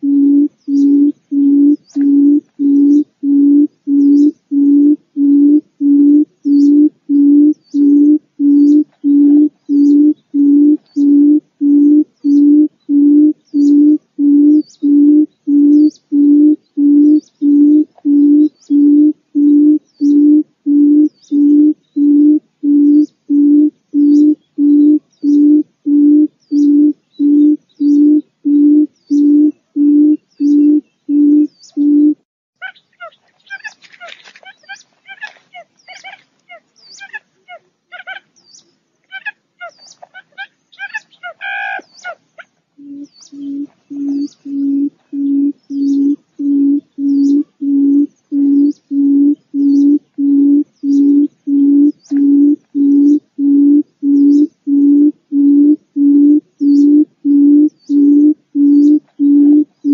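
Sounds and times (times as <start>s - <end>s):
quail hooting call: 0.0s - 38.3s, 39.1s - 59.9s.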